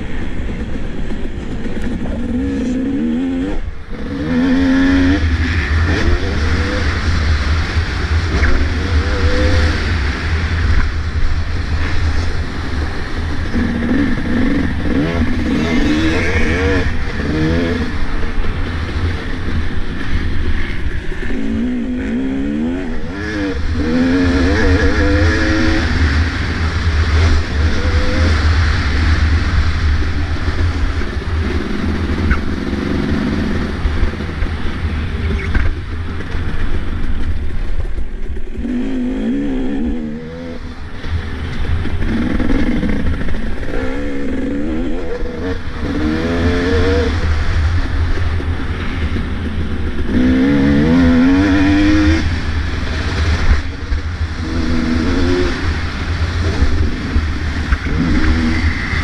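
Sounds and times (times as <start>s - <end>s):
motocross bike engine revving: 0.0s - 36.9s, 38.4s - 59.0s.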